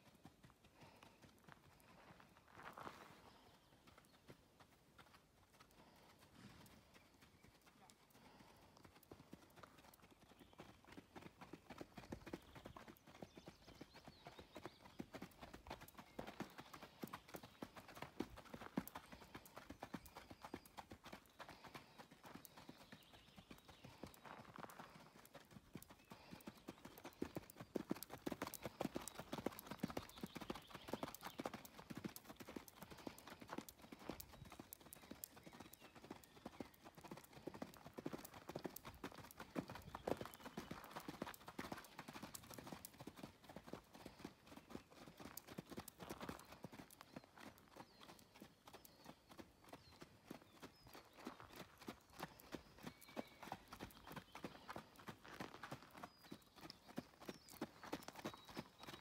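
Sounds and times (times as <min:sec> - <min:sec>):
hoofbeats on sand: 0:00.0 - 0:59.0.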